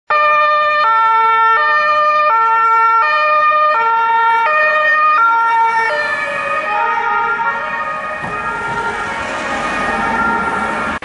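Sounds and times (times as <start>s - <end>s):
two-tone police siren: 0.1s - 11.0s.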